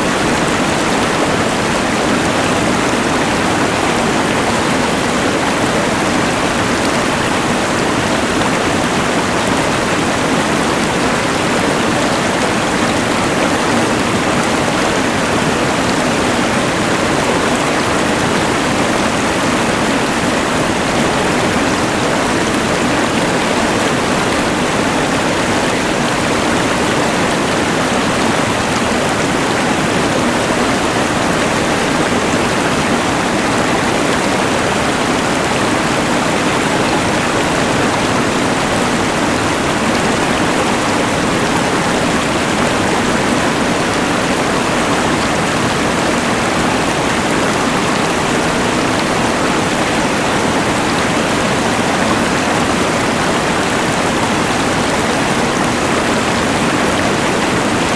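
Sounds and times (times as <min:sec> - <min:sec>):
mountain river rushing: 0:00.0 - 0:57.9.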